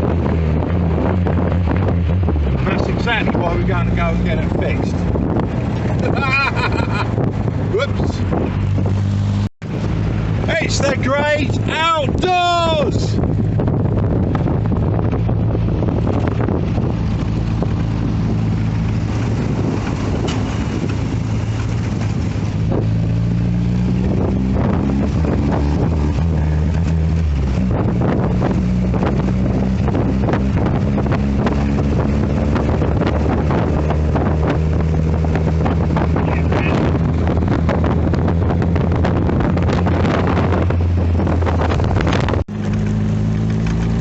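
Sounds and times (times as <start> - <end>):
car engine running while driving: 0.0 - 44.0
wind buffeting microphone: 0.0 - 44.0.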